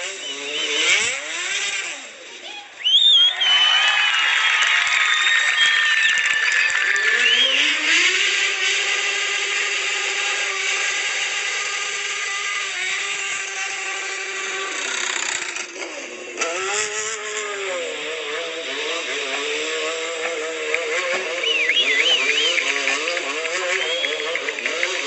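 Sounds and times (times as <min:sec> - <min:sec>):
motorcycle engine revving: 0:00.0 - 0:02.4, 0:06.4 - 0:25.0.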